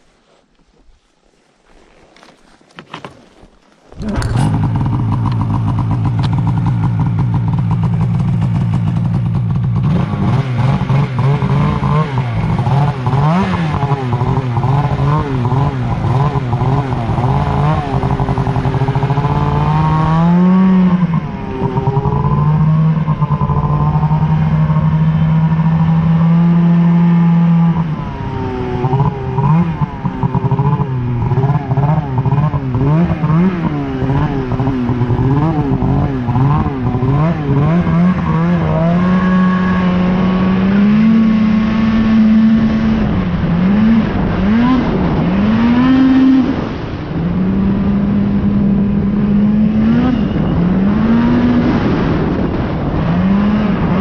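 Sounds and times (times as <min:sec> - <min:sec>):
snowmobile engine revving: 0:03.9 - 0:54.0.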